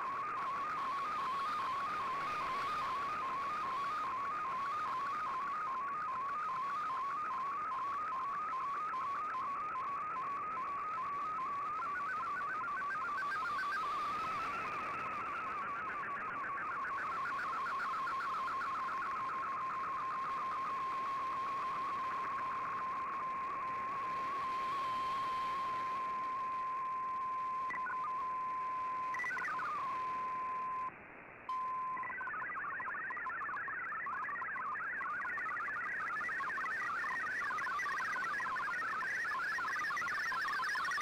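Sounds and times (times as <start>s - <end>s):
rapidly hopping data tones: 0.0s - 30.9s, 31.5s - 41.0s
steady radio tone: 0.0s - 30.9s, 31.5s - 41.0s
warbling radio data tones: 0.0s - 30.9s, 31.5s - 41.0s.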